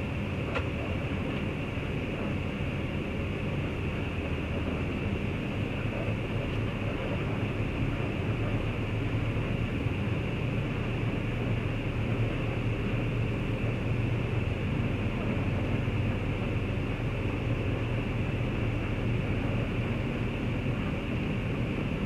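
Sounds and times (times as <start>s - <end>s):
bus diesel engine humming: 0.0s - 22.0s.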